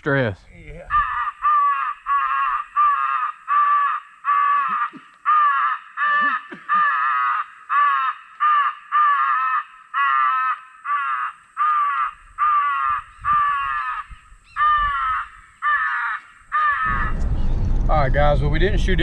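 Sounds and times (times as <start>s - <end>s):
crow cawing harshly: 0.9s - 17.1s.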